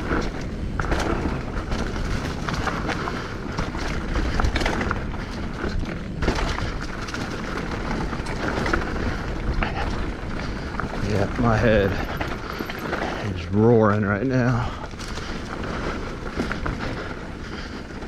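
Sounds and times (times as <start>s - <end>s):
bike rattling: 0.0s - 18.0s
bike tyres rumbling on dirt: 0.0s - 18.0s.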